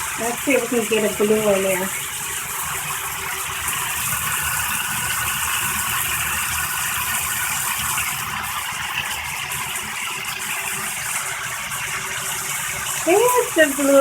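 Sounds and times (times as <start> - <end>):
shower water spraying into tub: 0.0 - 14.0.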